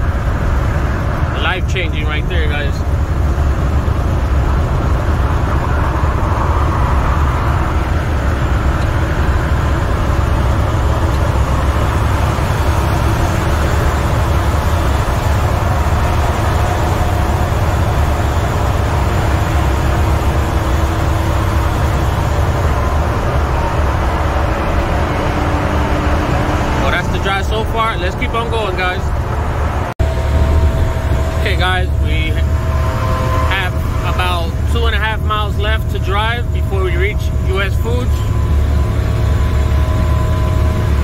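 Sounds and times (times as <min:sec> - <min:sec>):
truck diesel engine droning: 0:00.0 - 0:41.0.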